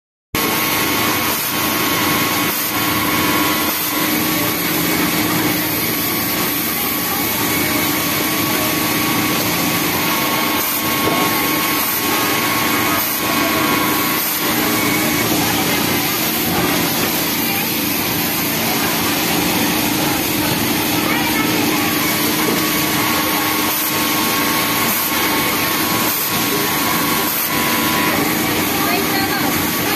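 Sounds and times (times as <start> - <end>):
overlock machine stitching: 0.4 - 29.9
sewing machines whirring: 0.4 - 29.9.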